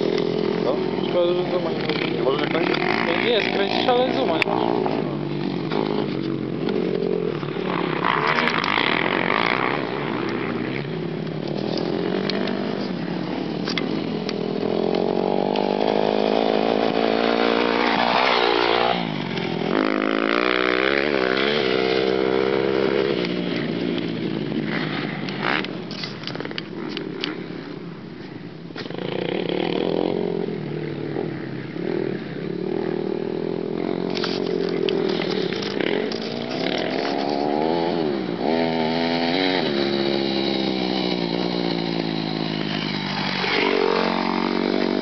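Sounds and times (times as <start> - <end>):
dirt bike engine revving: 0.0 - 27.7, 28.8 - 45.0.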